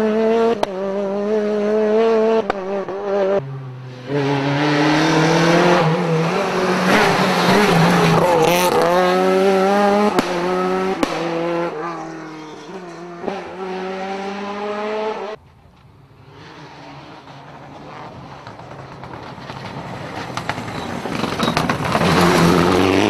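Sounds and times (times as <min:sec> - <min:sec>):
rally car engine revving: 0:00.0 - 0:15.4, 0:16.2 - 0:23.0.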